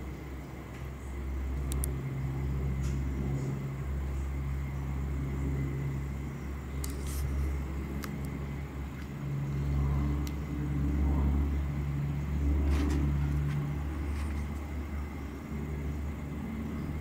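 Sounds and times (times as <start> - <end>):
aircraft engines rumbling: 0.0 - 17.0.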